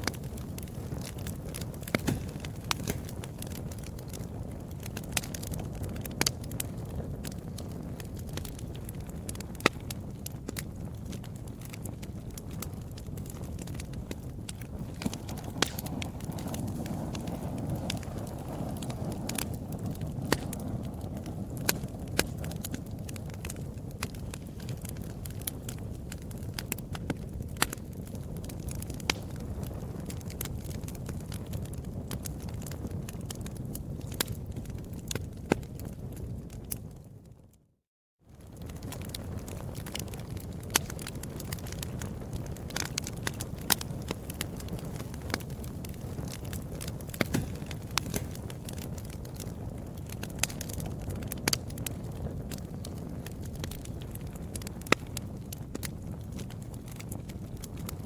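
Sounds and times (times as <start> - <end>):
sharp pops of fire: 0.0 - 37.0, 38.3 - 58.0
wood fire crackling: 0.0 - 37.7, 38.3 - 58.0.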